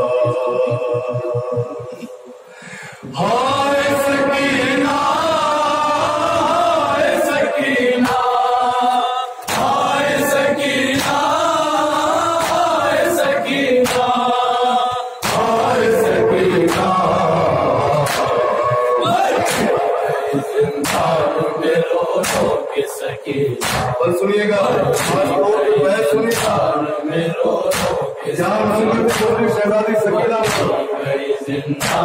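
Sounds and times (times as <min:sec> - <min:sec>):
men chanting a lament: 0:00.0 - 0:02.3, 0:03.0 - 0:32.0.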